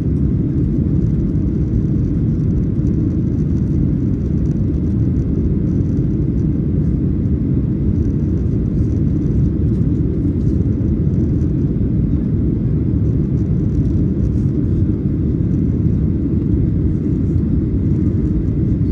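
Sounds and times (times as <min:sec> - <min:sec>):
airplane engines rumbling: 0:00.0 - 0:18.9.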